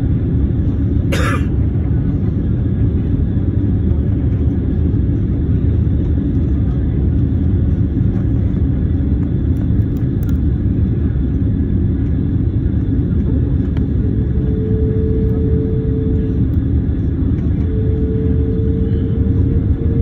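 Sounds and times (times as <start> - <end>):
jet engines and rushing air: 0.0 - 20.0.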